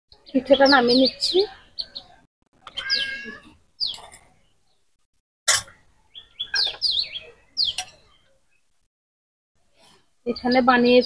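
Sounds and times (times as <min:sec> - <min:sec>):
birds chirping: 0:00.1 - 0:05.0, 0:05.6 - 0:08.7, 0:09.8 - 0:11.0.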